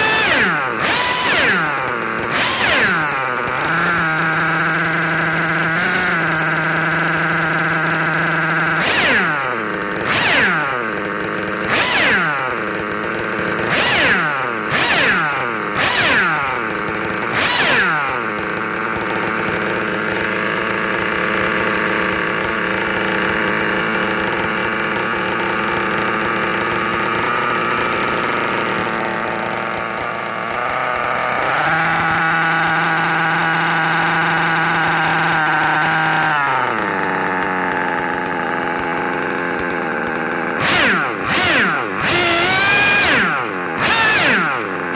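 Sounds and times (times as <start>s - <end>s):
nitro engine revving: 0.0s - 44.9s.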